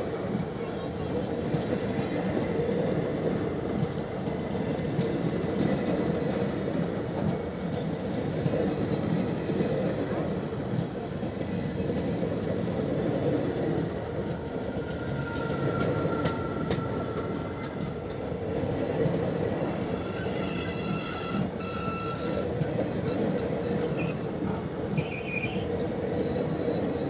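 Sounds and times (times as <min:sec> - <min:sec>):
train clatter: 0:00.0 - 0:27.0
train wheels rumbling on rail: 0:00.0 - 0:27.0.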